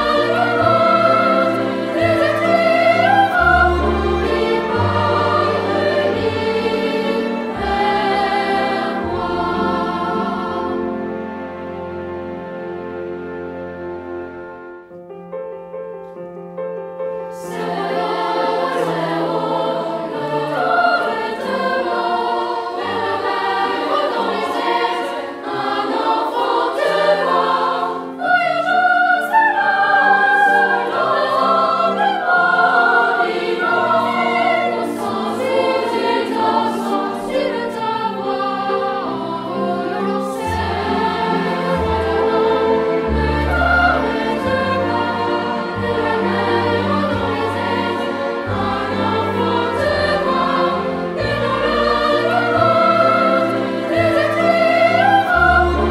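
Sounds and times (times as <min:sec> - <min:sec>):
choir singing: 0:00.0 - 0:14.9, 0:17.3 - 0:55.9
orchestral accompaniment: 0:00.0 - 0:55.9.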